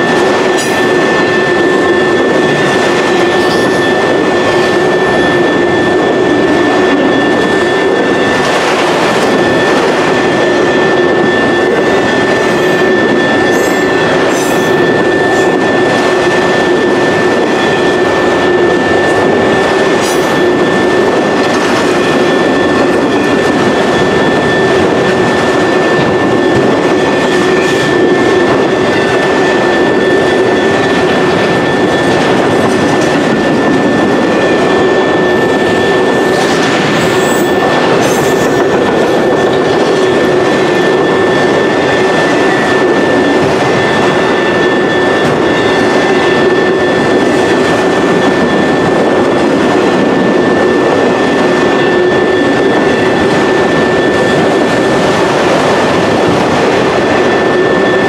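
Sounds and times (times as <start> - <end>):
freight train rumbling past: 0.0 - 58.0
steady high-pitched tone: 0.0 - 58.0.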